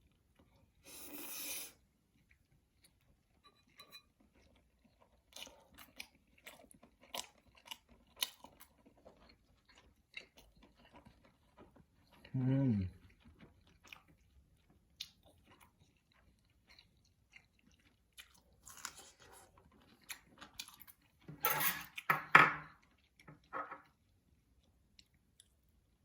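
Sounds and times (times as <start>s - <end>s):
person chewing food: 1.8s - 21.3s, 21.9s - 26.0s.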